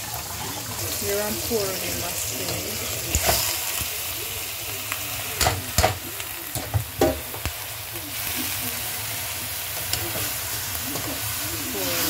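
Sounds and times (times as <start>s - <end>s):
spinach sizzling in hot oil: 0.0s - 12.0s.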